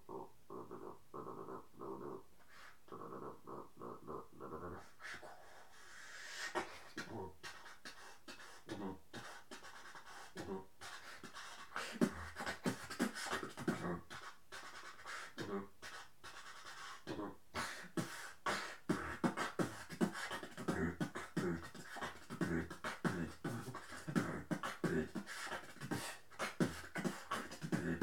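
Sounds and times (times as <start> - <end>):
beatboxing into a microphone: 0.0 - 28.0.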